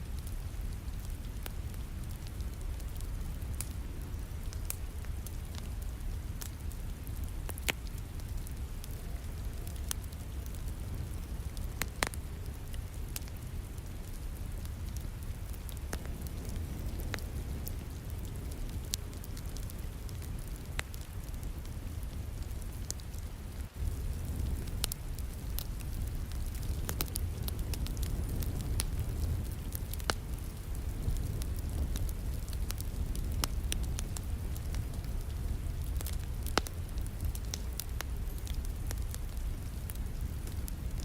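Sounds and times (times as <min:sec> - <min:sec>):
rain falling: 0:00.0 - 0:41.0
wood fire crackling: 0:00.0 - 0:41.0.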